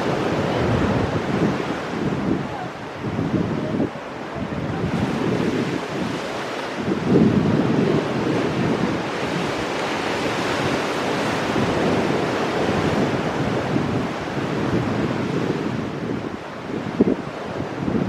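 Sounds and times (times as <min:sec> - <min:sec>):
ocean surf breaking on rocks: 0:00.0 - 0:18.0
wind buffeting microphone: 0:00.0 - 0:18.0.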